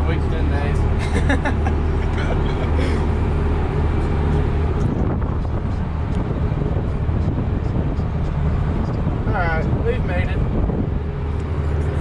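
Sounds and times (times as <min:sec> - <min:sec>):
tractor engine droning: 0:00.0 - 0:12.0
higher hum: 0:00.6 - 0:12.0.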